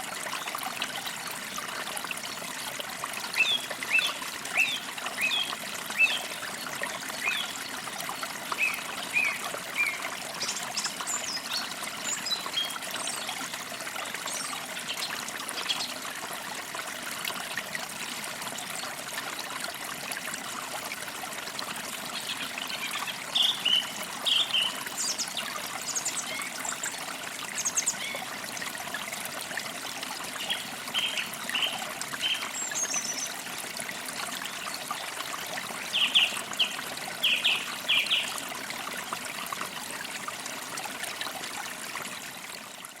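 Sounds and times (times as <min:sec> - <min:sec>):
creek trickling: 0:00.0 - 0:43.0.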